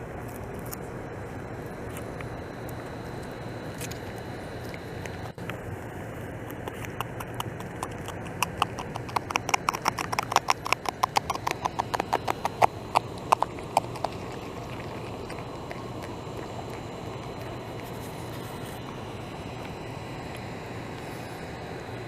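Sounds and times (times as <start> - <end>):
beaver gnawing bark: 0.2 - 22.0.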